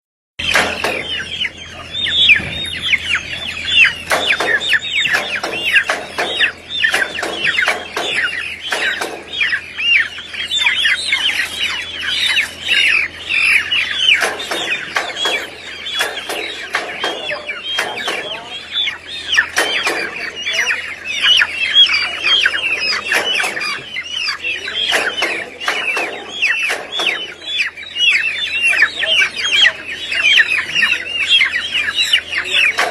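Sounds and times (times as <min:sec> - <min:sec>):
chickens calling: 0:00.4 - 0:32.9
chickens clucking: 0:00.4 - 0:32.9.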